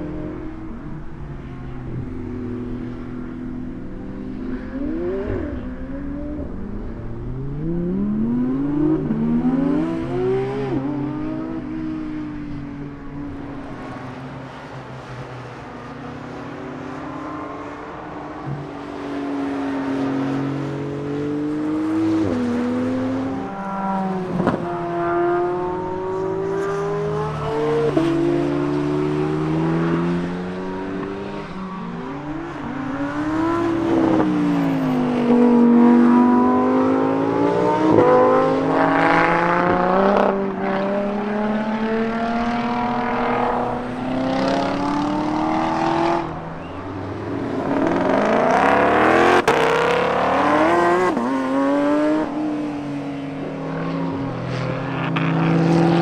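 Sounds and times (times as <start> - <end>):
sports cars accelerating: 0.0 - 56.0.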